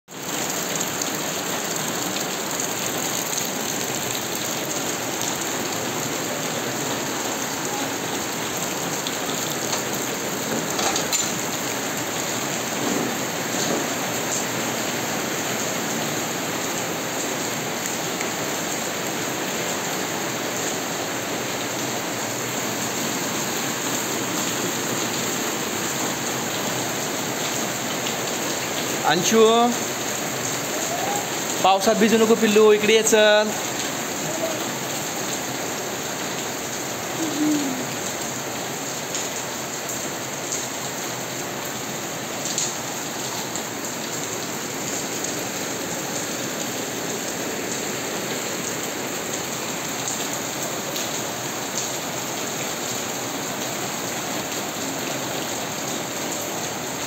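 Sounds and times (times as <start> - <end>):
rain splashing on wet ground: 0.1 - 57.0.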